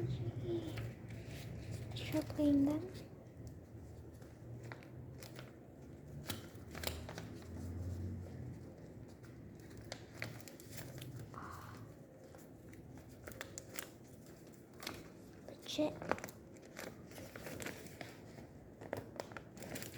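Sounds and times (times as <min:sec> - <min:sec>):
crinkling handling noise: 0:00.0 - 0:19.9.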